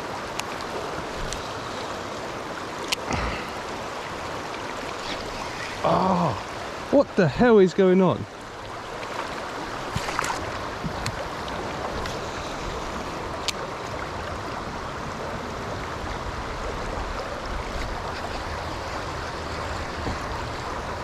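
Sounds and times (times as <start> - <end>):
river water rushing over rocks: 0.0 - 21.0.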